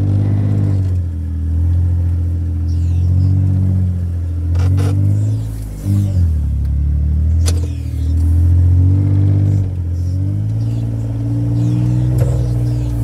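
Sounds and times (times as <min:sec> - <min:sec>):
utility vehicle engine under load: 0:00.0 - 0:13.0.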